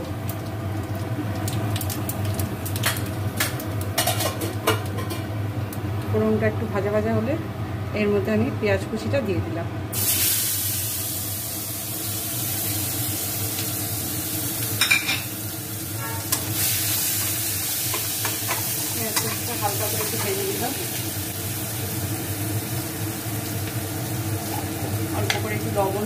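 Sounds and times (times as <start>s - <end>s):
onion sizzling in oil: 0.0s - 7.3s, 9.9s - 26.0s.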